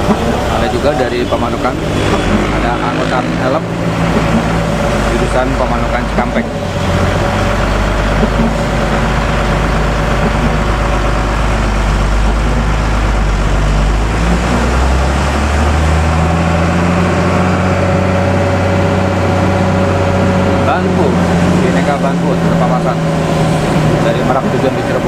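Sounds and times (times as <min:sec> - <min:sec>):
bus engine: 0:00.0 - 0:25.0
road noise: 0:00.0 - 0:25.0.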